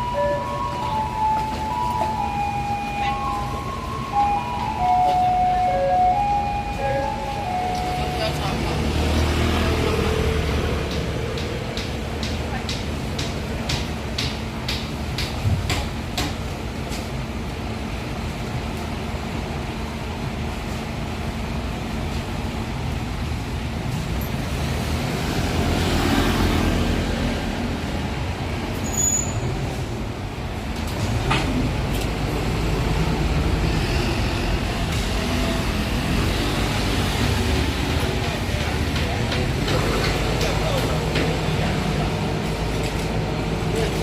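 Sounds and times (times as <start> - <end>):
diesel truck engine rumble: 0.0 - 44.0.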